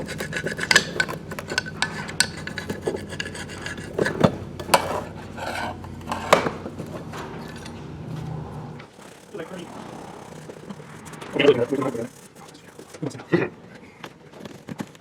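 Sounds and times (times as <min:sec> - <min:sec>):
metal parts scraping: 0:00.0 - 0:13.0
steady low hum: 0:00.0 - 0:14.0.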